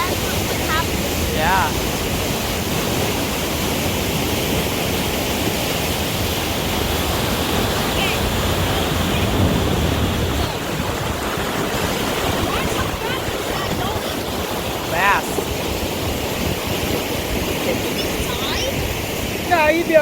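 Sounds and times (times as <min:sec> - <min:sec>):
creek rushing water roar: 0:00.0 - 0:20.0
wind rumbling on microphone: 0:00.0 - 0:20.0.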